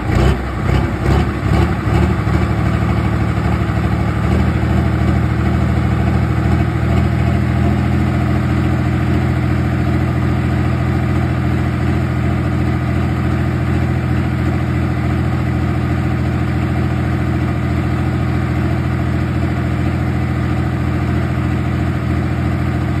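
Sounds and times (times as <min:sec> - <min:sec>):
tractor diesel engine idling: 0:00.0 - 0:23.0.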